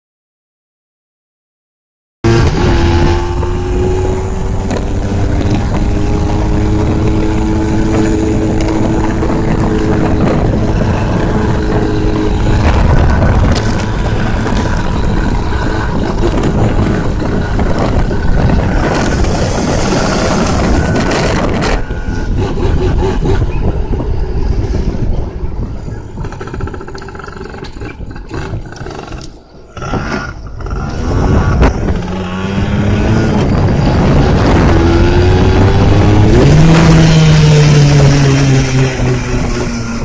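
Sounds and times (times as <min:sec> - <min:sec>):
dirt bike engine running: 0:02.2 - 0:40.0.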